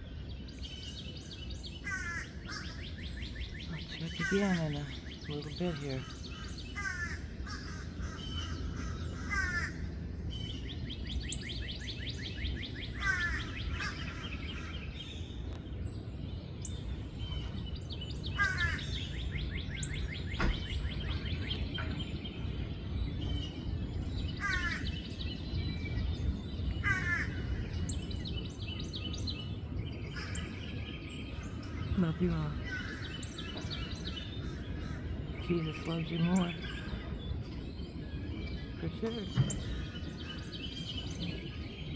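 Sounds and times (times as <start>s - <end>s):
birds singing: 0.0s - 41.9s
steady low rumble: 0.0s - 41.9s.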